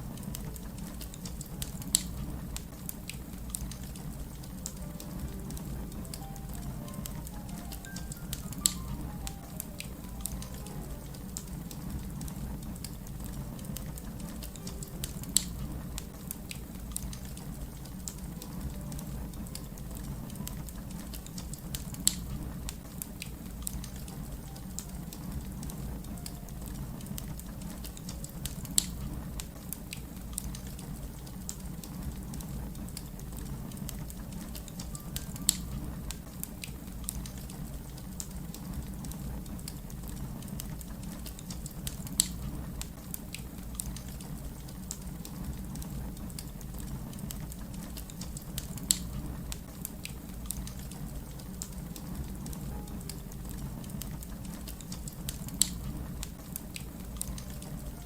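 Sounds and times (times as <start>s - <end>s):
fire crackling: 0.0s - 58.0s
fire popping: 0.0s - 58.0s.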